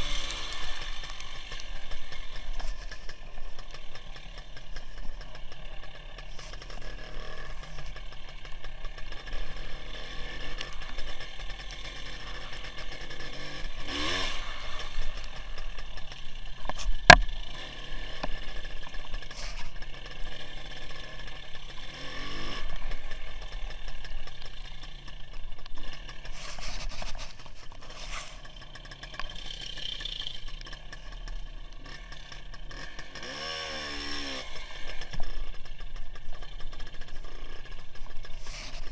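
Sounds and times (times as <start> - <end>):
two-stroke motorcycle engine running: 0.0 - 38.9
wind and road noise: 0.0 - 38.9.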